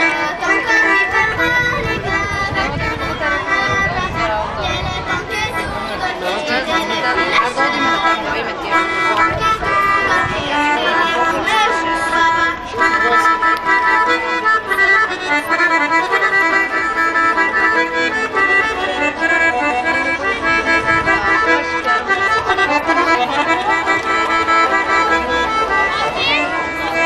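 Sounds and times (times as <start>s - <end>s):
accordion playing folk tune: 0.0s - 27.0s.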